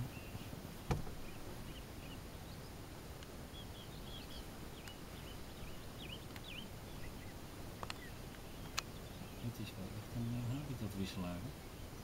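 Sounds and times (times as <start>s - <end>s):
low outdoor background noise: 0.0s - 12.0s
small birds chirping: 0.0s - 12.0s.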